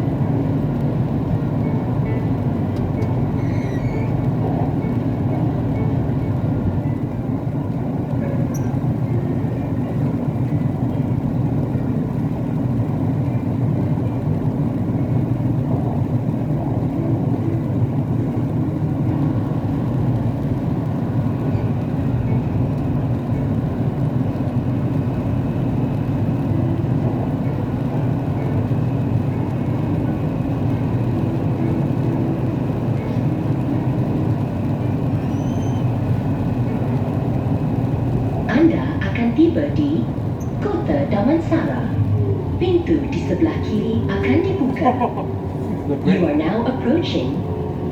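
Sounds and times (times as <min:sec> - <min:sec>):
train wheels rumbling on track: 0:00.0 - 0:47.9.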